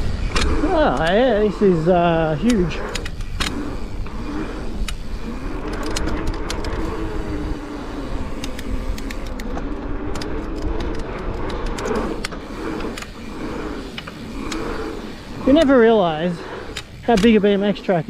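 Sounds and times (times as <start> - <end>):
bike clicks and rattles: 0.0 - 18.0
bike tyre hum: 0.0 - 18.0
wind rushing over microphone: 0.0 - 18.0.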